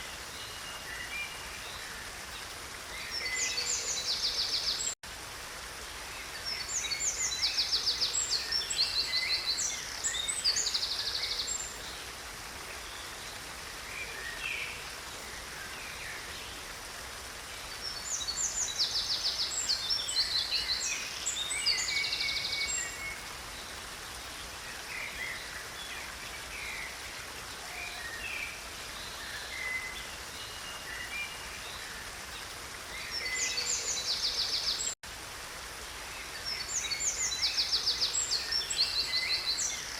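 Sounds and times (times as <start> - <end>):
songbirds trilling and chirping: 0.0 - 5.0, 5.8 - 35.4, 36.0 - 39.9
small stream running: 0.0 - 39.9.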